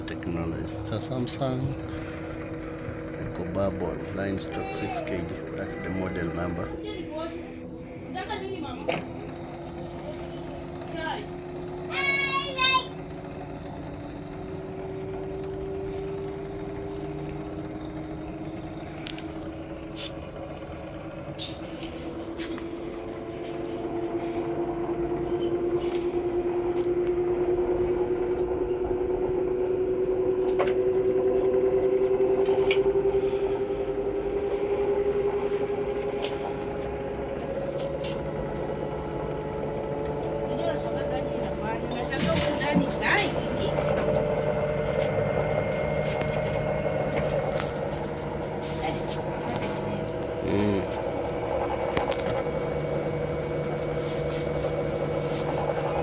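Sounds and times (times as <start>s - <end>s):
washing machine motor whining: 0.0s - 56.0s.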